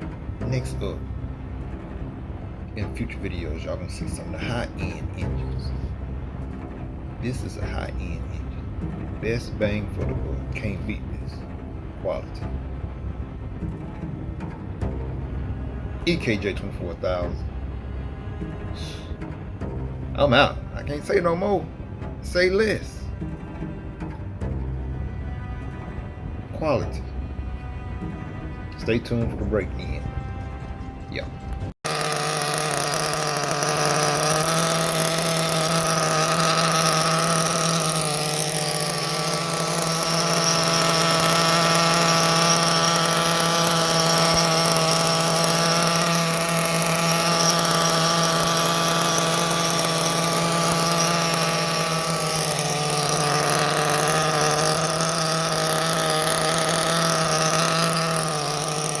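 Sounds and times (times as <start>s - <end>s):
small nitro engines idling: 0.0s - 30.2s, 31.1s - 59.0s.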